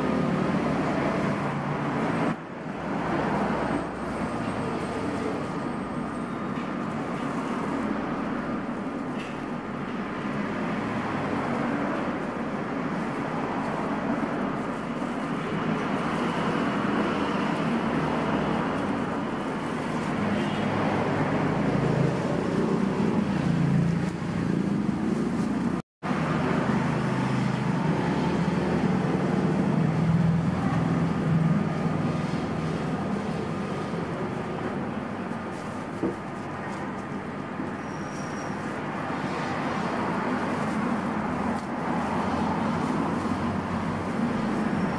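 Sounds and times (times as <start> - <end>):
passing traffic rumble: 0.0 - 44.9.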